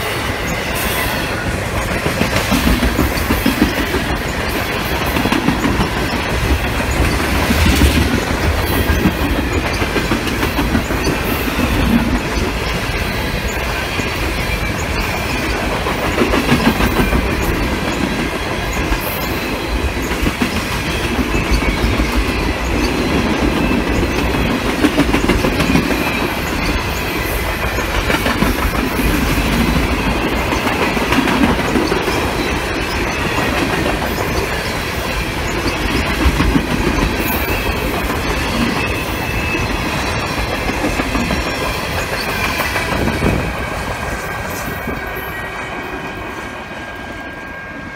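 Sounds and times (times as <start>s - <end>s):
clickety-clack over rail joints: 0.0s - 47.6s
train wheels rumbling on rail: 0.0s - 47.9s.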